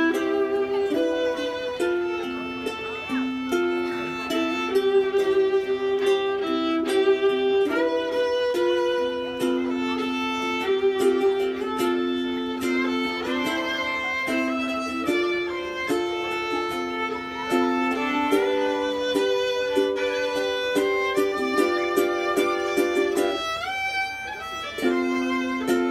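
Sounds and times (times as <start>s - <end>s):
violin playing long notes: 0.0s - 25.9s.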